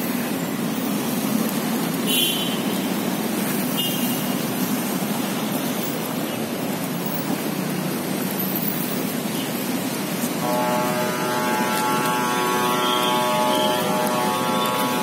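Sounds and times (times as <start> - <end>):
busy street traffic: 0.0 - 15.0.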